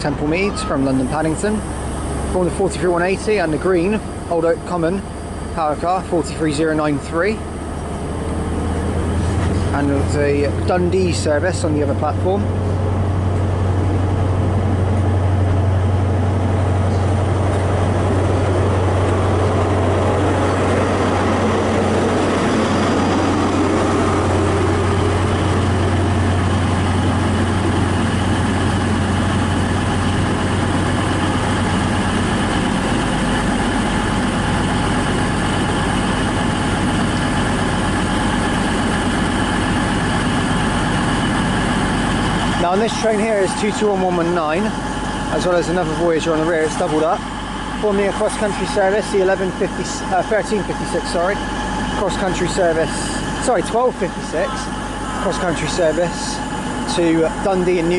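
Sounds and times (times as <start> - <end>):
diesel train engines idling: 0.0 - 57.9
steady higher tones: 0.0 - 57.9.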